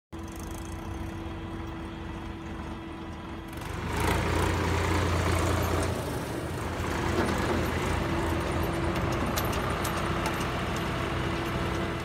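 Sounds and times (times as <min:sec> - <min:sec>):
tractor engine running: 0:00.1 - 0:12.0.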